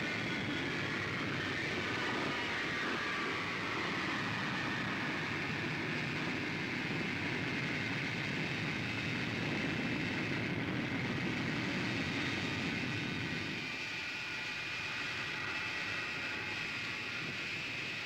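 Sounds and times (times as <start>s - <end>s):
aircraft engines rushing: 0.0s - 18.0s
high steady engine whine: 0.0s - 18.0s.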